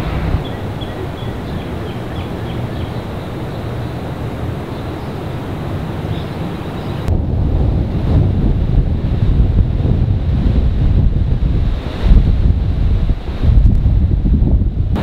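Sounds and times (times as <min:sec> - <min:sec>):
outdoor rumble: 0:00.0 - 0:15.0
wind on microphone: 0:00.0 - 0:15.0.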